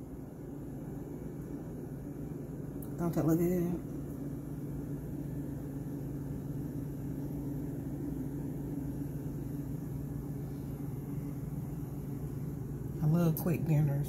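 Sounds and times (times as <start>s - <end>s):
machine humming with hiss: 0.0s - 14.0s.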